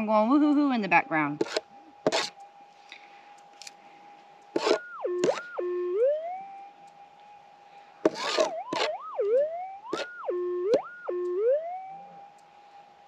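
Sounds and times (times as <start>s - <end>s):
metal detector hum: 0.0s - 13.0s.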